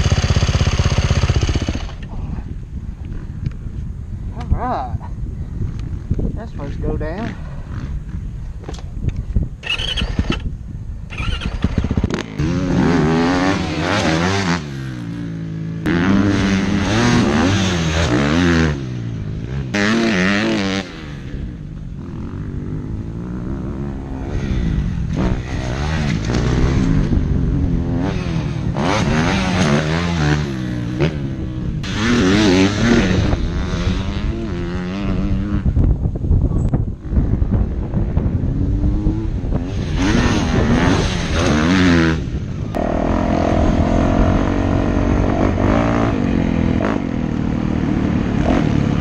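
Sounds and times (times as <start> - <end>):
dirt bike engine revving: 0.0 - 2.1, 9.6 - 10.5, 11.1 - 35.8, 37.0 - 49.0.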